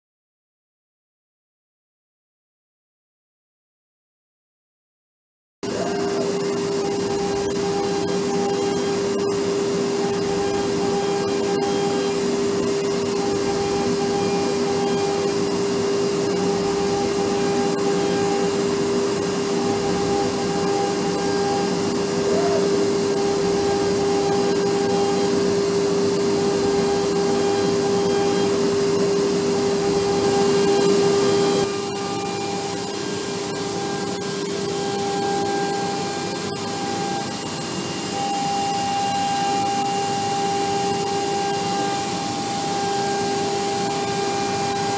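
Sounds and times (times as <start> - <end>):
cutting noise: 5.6 - 9.4, 10.0 - 44.9
router spindle whine: 5.6 - 44.9.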